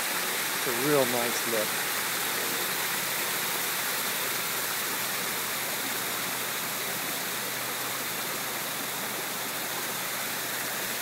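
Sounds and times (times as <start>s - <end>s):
waterfall splashing into pool: 0.0s - 11.0s.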